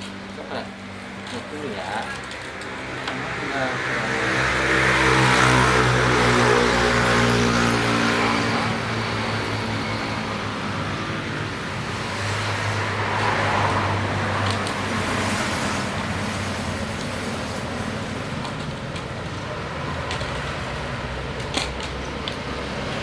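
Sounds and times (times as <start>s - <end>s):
vehicle engines passing: 0.0s - 23.0s.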